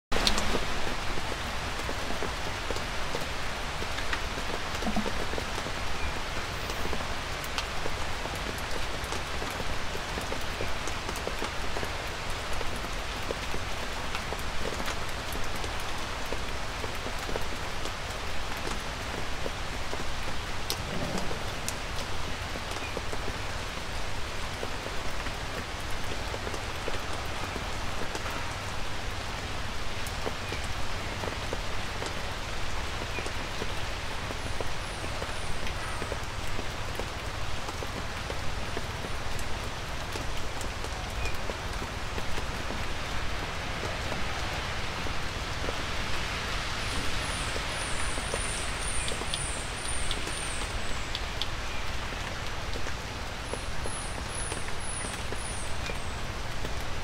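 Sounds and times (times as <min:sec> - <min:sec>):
raindrops ticking: 0:00.1 - 0:44.6, 0:45.2 - 0:57.0
light rain pattering: 0:00.1 - 0:57.0.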